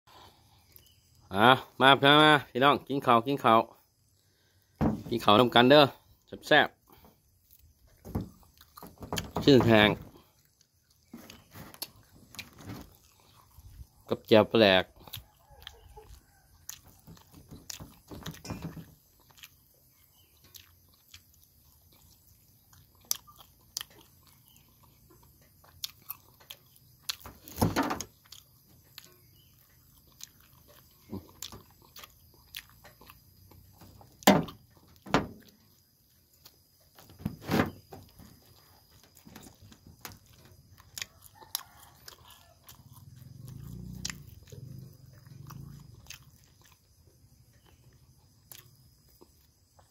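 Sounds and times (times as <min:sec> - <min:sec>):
quiet chewing and mouth clicks: 0:00.1 - 0:01.3, 0:03.8 - 0:04.8, 0:06.0 - 0:09.1, 0:10.1 - 0:37.2, 0:37.9 - 0:49.9.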